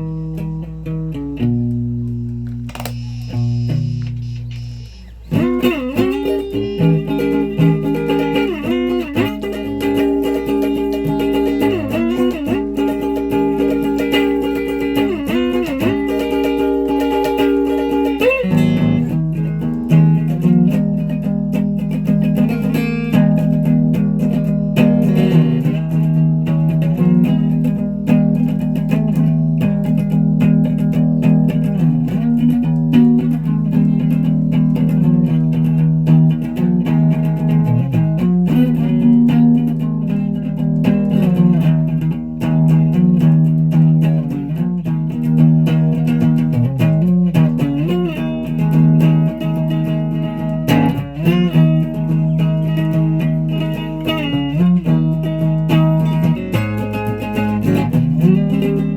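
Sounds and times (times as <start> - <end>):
guitar picking notes: 0.0 - 58.9.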